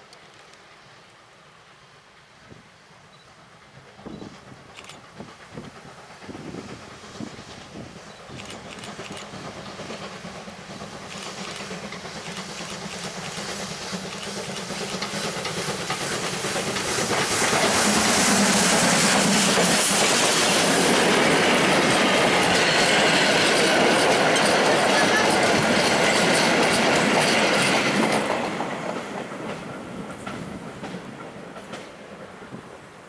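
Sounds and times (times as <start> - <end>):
steam locomotive passing: 0.0 - 33.0
wheels clickety-clack over rails: 4.0 - 32.5.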